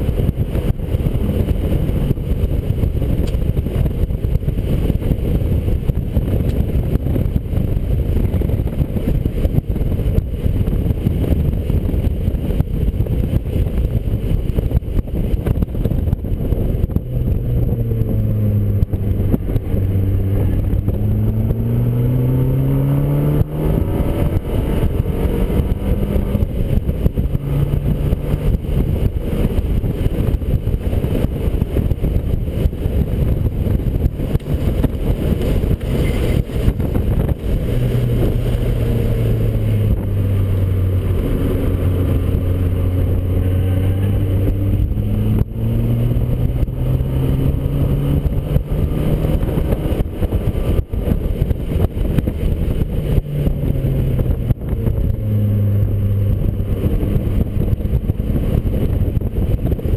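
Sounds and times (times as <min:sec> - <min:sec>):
car engine accelerating: 0:00.0 - 0:59.9
road rumble: 0:00.0 - 0:59.9
wind noise: 0:00.0 - 0:59.9.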